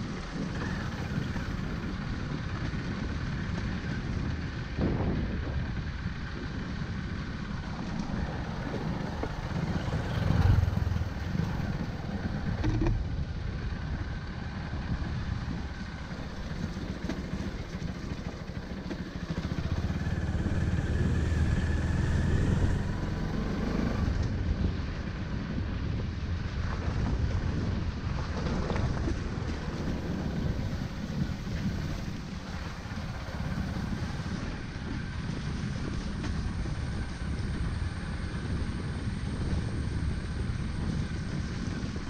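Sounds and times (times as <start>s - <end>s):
motorcycle engine rumbling: 0.0s - 42.0s.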